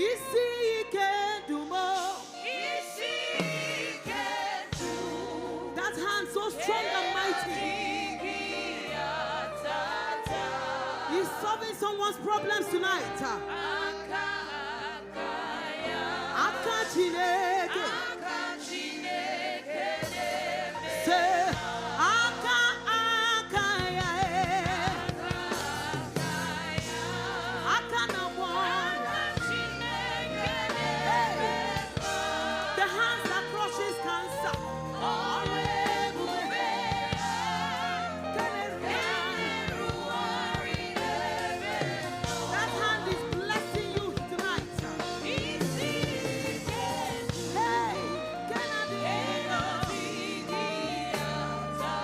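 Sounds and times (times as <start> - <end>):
instrumental backing with bass: 0.0 - 52.0
voices singing with vibrato: 0.0 - 52.0.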